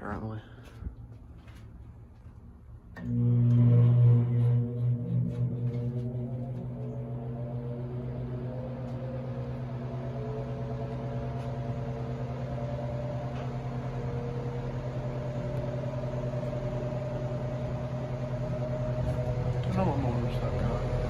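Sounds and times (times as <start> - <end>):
fan motor hum and air rush: 0.0 - 21.0.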